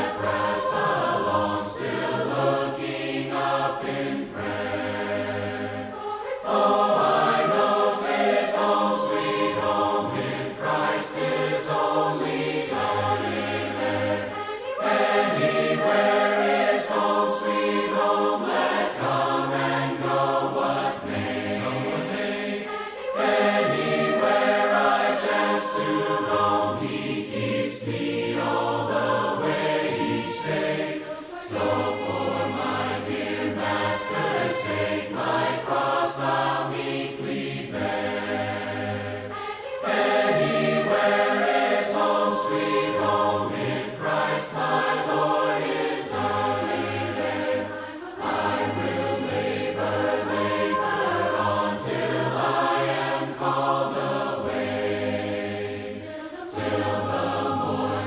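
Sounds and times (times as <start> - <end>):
group singing hymn in harmony: 0.0 - 58.0.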